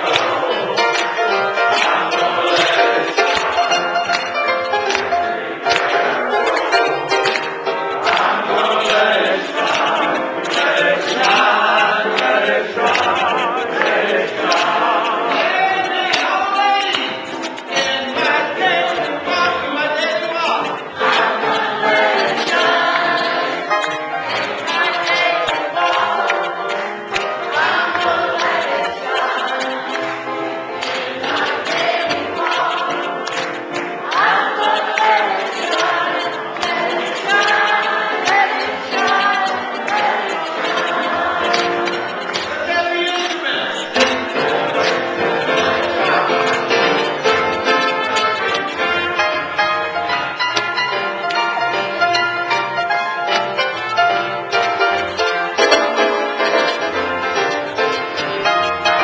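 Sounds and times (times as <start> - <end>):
congregation singing gospel: 0.0 - 59.0
people clapping: 0.0 - 59.0
piano accompaniment: 0.0 - 59.0.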